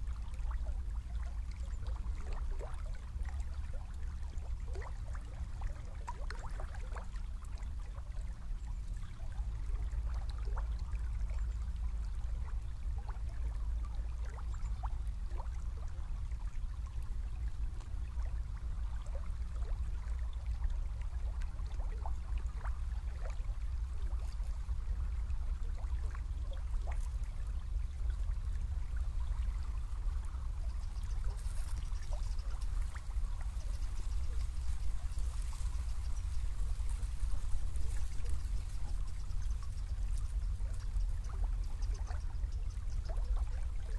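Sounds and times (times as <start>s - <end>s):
low rumble: 0.0s - 43.9s
river trickling and babbling: 0.0s - 43.9s
water plinks: 0.0s - 43.9s.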